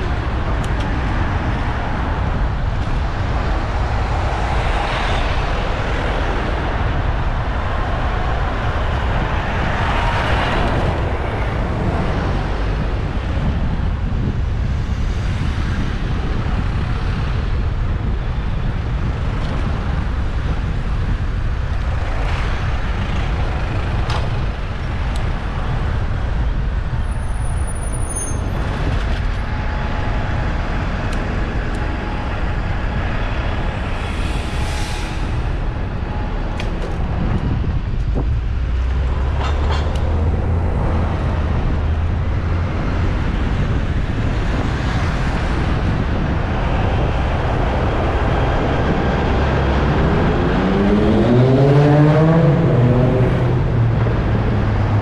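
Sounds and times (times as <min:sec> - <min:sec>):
road traffic: 0:00.0 - 0:55.0
vehicles passing: 0:00.0 - 0:55.0
wind rumble: 0:00.0 - 0:55.0.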